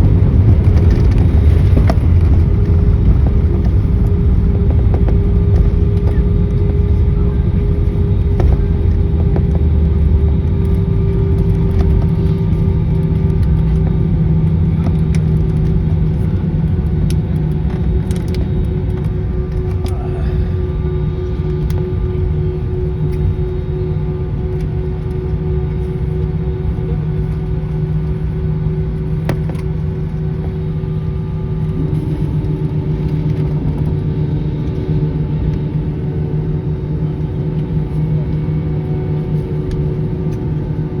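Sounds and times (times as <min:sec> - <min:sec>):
airliner engines rumbling: 0:00.0 - 0:41.0
steady hum: 0:00.0 - 0:41.0.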